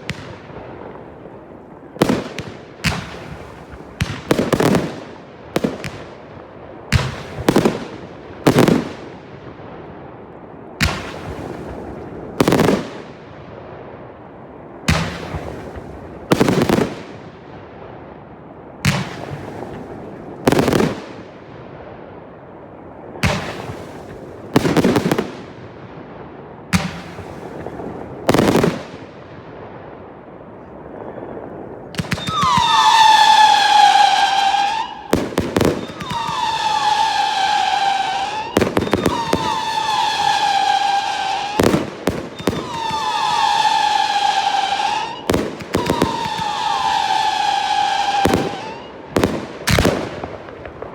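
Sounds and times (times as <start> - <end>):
fireworks bursting: 0.0 - 30.7, 31.4 - 50.9
whistling fireworks: 0.0 - 50.9.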